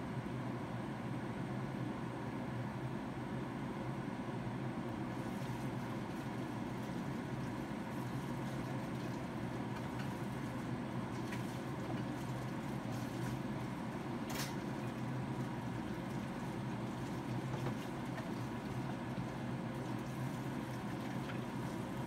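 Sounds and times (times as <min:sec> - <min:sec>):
range hood fan humming: 0:00.0 - 0:22.0.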